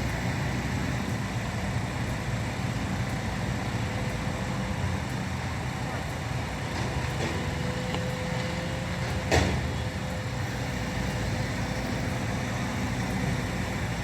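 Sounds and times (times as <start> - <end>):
heavy vehicle engines rumbling: 0.0 - 14.0.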